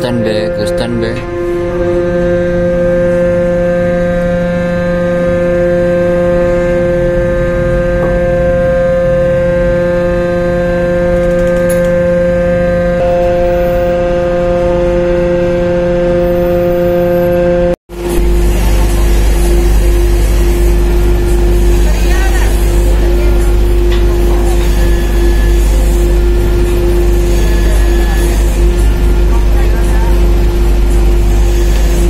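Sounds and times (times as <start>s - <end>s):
ship machinery droning: 0.0s - 32.0s
deep rumble: 0.9s - 32.0s.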